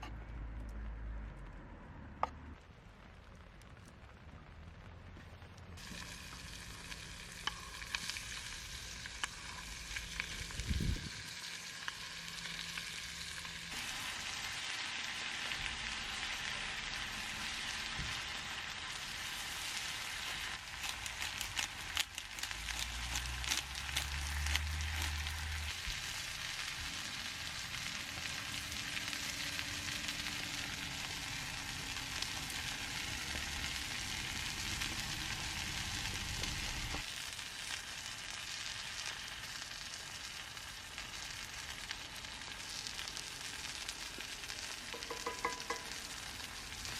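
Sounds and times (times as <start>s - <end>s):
food sizzling in a skillet: 5.8s - 46.9s.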